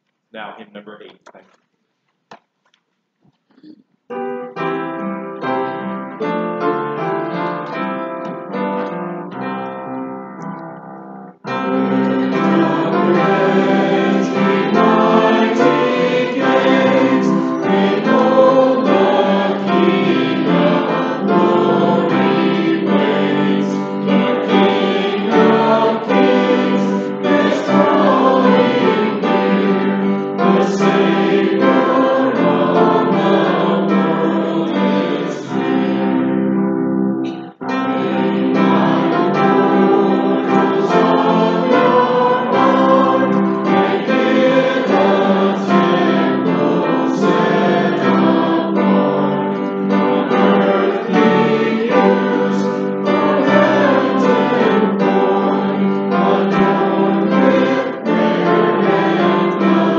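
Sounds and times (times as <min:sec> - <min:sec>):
piano playing: 0:04.1 - 0:59.9
congregation singing a hymn: 0:10.8 - 0:59.9.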